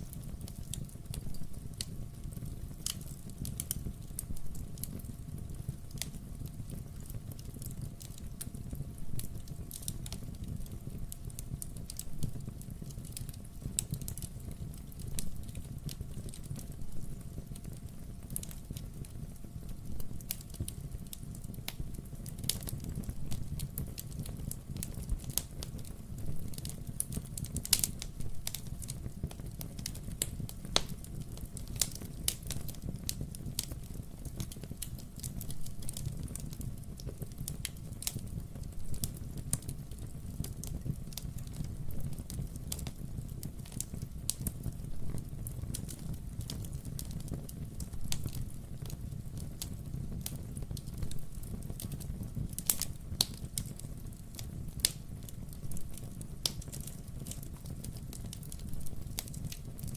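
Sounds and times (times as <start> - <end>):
pops and snaps of fire: 0.0 - 59.9
wood fire crackling: 0.0 - 59.9.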